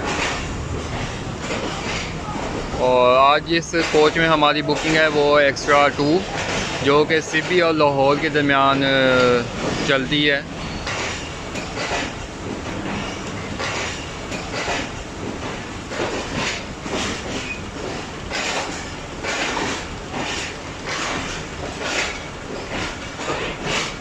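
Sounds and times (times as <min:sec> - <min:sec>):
heavy rain hiss: 0:00.0 - 0:24.0
train wheels clacking: 0:00.0 - 0:24.0.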